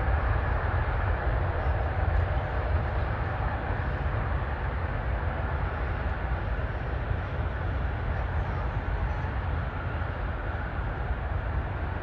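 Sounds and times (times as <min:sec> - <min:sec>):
jet airliner engines rumbling: 0:00.0 - 0:12.0.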